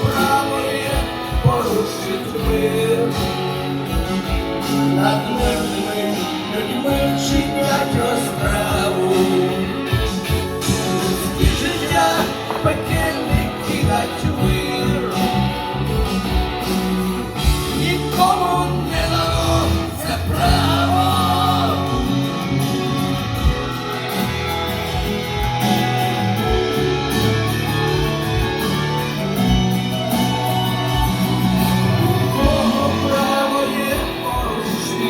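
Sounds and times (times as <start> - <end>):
instrumental band music: 0.0 - 35.0
melodic lead line bending: 0.0 - 35.0.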